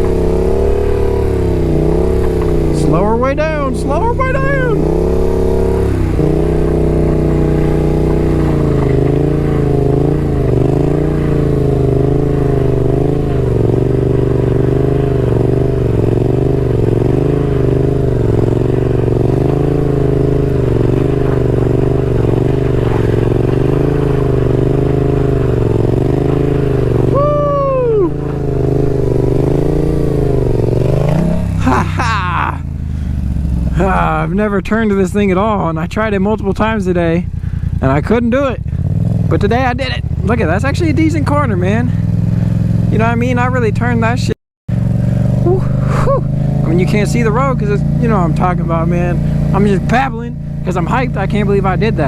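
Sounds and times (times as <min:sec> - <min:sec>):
motorcycle engine at low revs: 0:00.0 - 0:52.0.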